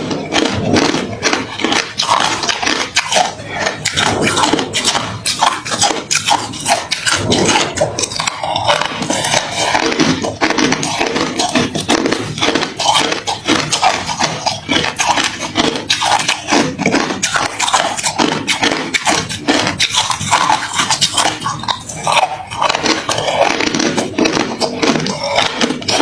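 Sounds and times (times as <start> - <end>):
person chewing crushed ice: 0.0 - 26.0.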